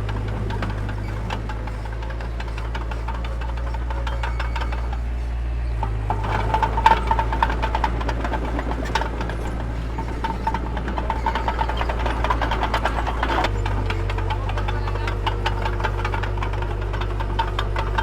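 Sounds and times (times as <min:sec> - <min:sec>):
diesel engine running: 0:00.0 - 0:18.0
metallic clanking and squeaking: 0:00.0 - 0:18.0.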